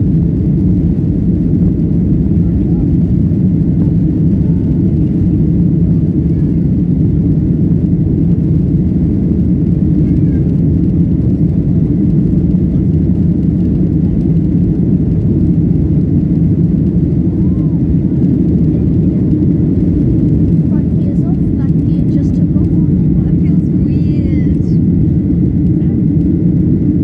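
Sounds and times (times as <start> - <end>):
jet engines rumbling in cabin: 0.0 - 27.0.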